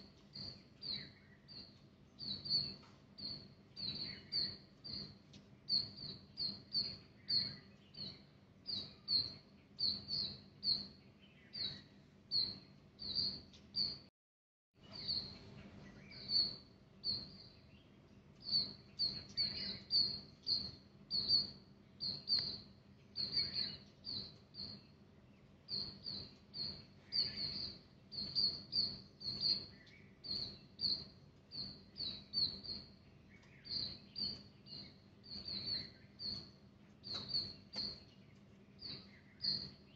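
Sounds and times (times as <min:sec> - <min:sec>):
small bird chirping: 0:00.0 - 0:14.1, 0:14.8 - 0:39.9.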